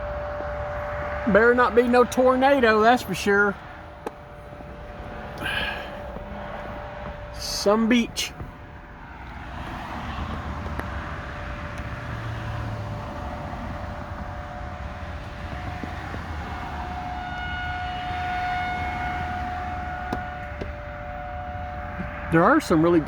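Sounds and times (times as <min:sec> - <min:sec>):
tornado siren two-note tone: 0:00.0 - 0:23.0.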